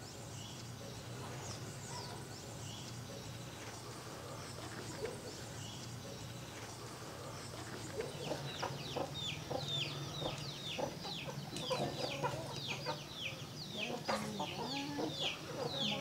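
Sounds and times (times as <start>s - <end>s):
chickens clucking: 2.9s - 16.0s.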